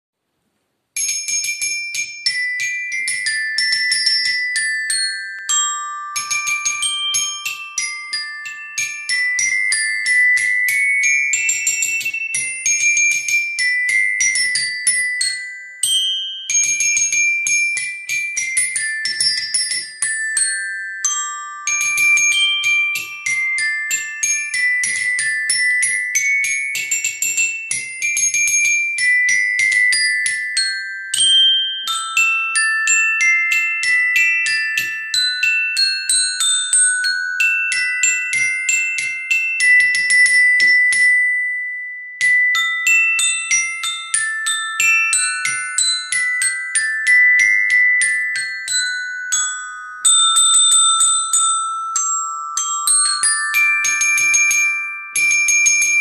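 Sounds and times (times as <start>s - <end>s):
glockenspiel melody: 1.0s - 56.0s.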